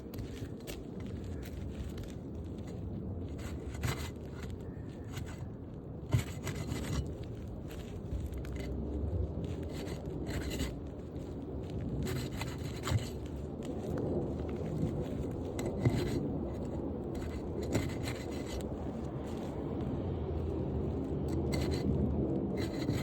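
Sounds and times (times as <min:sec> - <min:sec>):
roof shingles scraping: 0:00.2 - 0:19.8, 0:20.8 - 0:23.0.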